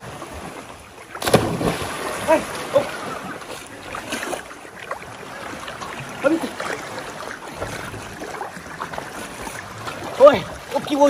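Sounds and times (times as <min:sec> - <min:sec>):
sea water lapping: 0:00.0 - 0:11.0.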